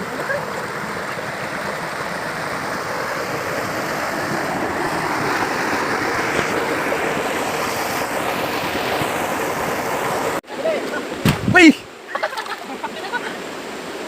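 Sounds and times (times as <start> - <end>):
water rushing: 0.0 - 14.0.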